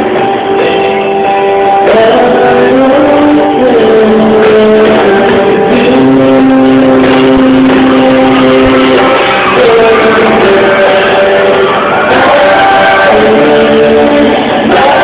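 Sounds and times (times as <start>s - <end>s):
live pop-rock band with guitar: 0.0s - 15.0s.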